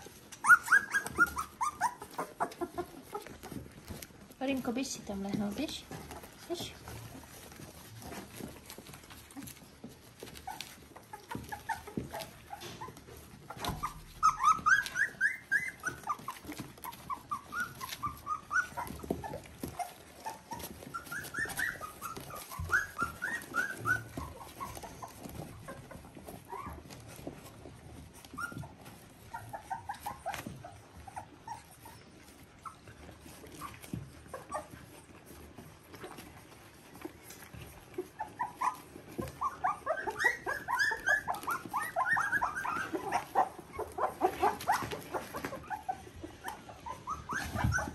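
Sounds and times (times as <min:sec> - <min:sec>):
puppies squeaking and whining: 0:00.0 - 0:47.9.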